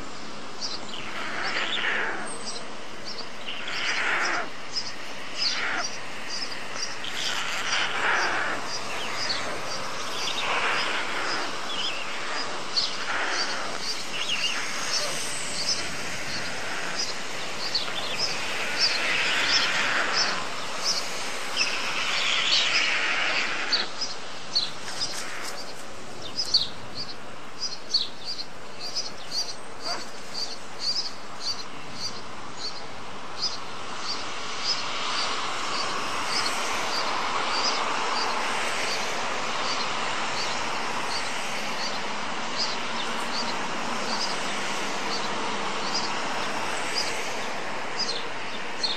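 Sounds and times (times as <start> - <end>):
outdoor background noise: 0.0 - 48.9
songbird chirping: 0.0 - 48.9.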